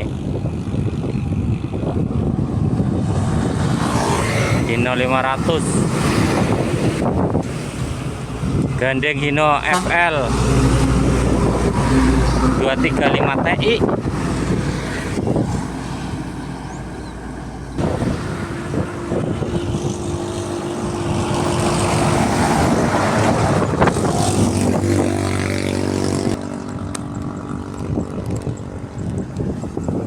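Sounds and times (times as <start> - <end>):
diesel trucks passing: 0.0 - 30.0.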